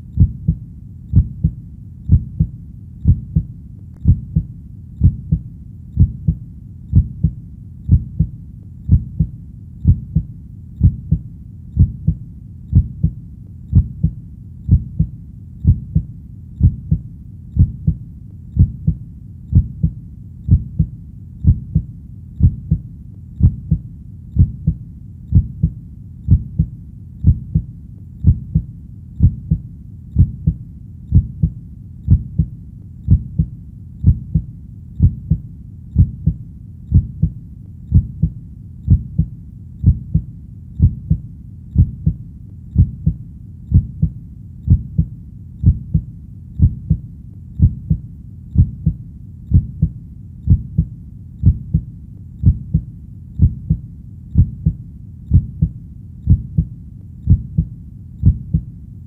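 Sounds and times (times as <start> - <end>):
low steady rumble: 0.0 - 59.0
heartbeat double thump: 0.2 - 5.4, 6.0 - 8.3, 8.9 - 11.2, 11.8 - 17.0, 17.6 - 18.0, 18.6 - 22.8, 23.4 - 23.8, 24.4 - 29.6, 30.2 - 32.5, 33.1 - 35.4, 36.0 - 41.2, 41.8 - 42.2, 42.8 - 47.0, 47.6 - 48.0, 48.6 - 49.9, 50.5 - 53.8, 54.4 - 56.7, 57.3 - 58.7.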